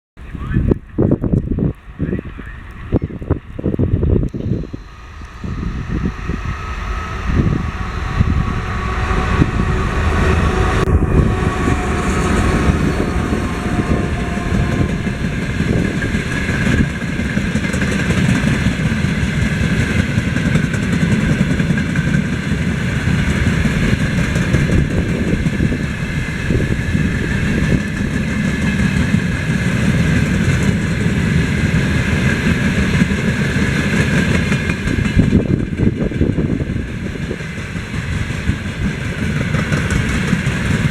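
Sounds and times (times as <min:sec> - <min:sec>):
diesel locomotive engine rumble: 0:00.2 - 0:40.9
train wagons rolling on rails: 0:00.2 - 0:40.9.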